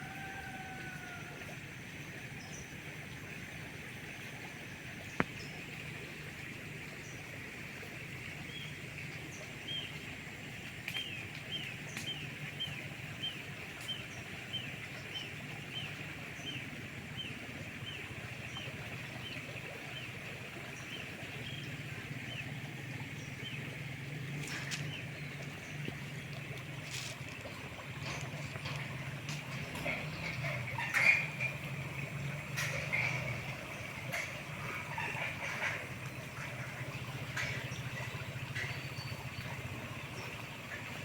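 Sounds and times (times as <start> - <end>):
rainforest high drone: 0.0 - 41.0.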